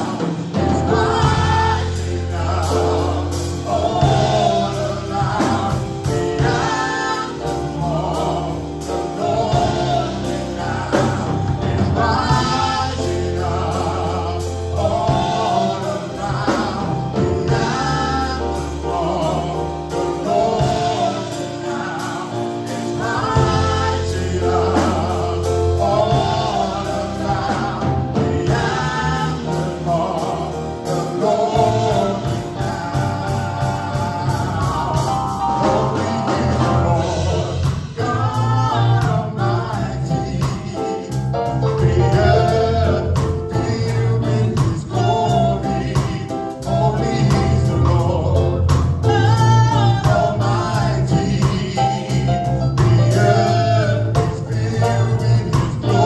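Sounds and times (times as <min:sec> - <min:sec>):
gospel band and singers: 0:00.0 - 0:56.0.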